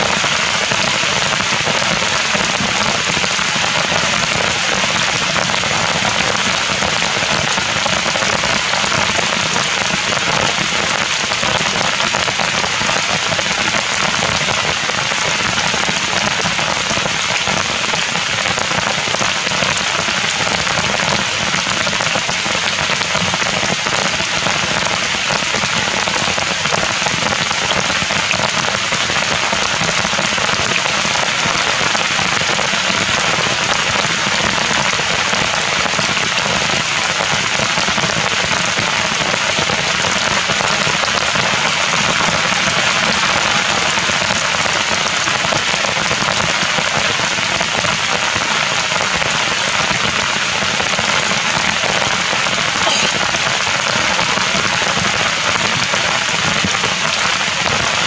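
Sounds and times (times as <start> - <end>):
heavy rain on ground and leaves: 0.0 - 58.0.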